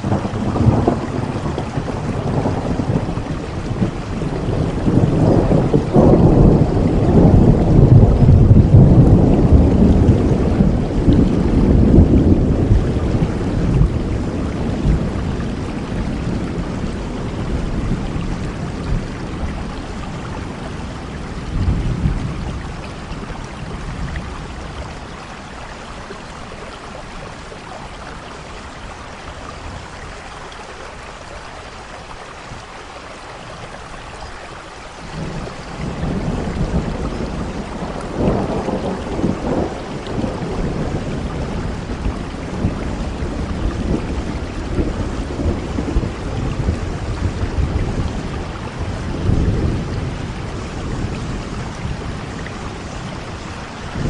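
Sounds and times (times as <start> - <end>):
thunder rumbling: 0.0 - 32.7, 33.4 - 54.0
heavy rain falling: 0.0 - 54.0.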